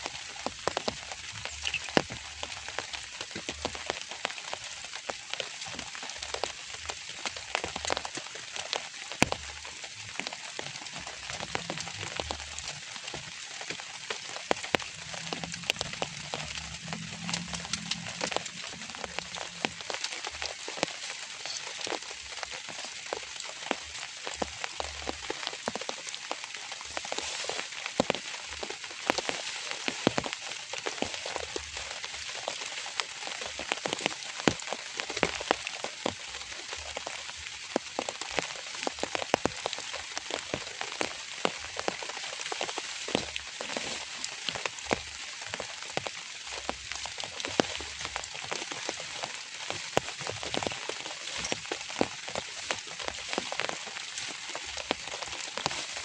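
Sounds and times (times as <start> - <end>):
raindrops ticking: 0.0 - 56.0
steady light rain: 0.0 - 56.0.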